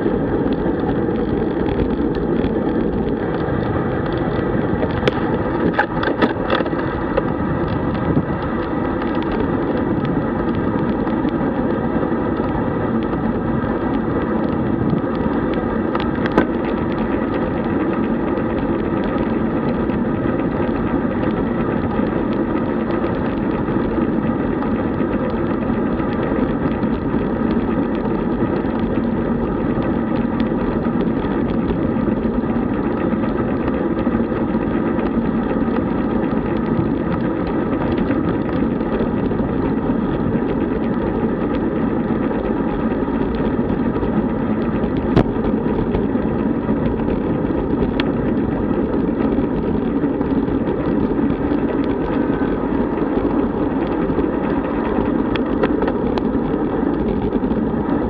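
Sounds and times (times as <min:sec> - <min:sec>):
bike tyre and road noise: 0:00.0 - 0:58.0
wind rushing over microphone: 0:00.0 - 0:58.0.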